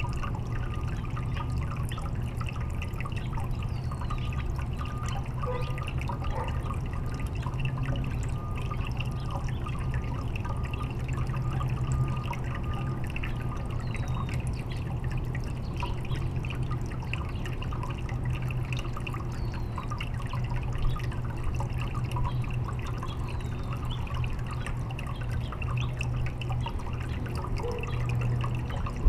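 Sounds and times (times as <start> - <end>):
fountain water trickling and dripping: 0.0 - 29.0
steady low hum: 0.0 - 29.0.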